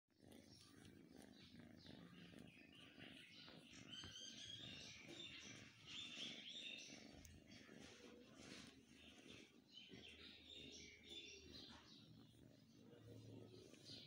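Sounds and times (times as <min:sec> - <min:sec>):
kitten purring: 0:00.1 - 0:14.0
birds chirping: 0:00.2 - 0:14.0.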